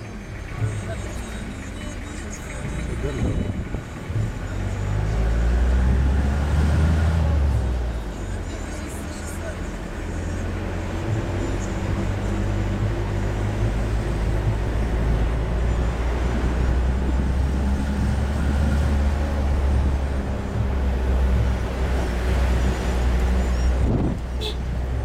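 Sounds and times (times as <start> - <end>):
car engine running in cabin: 0.0 - 25.0
tyre and road noise: 0.0 - 25.0.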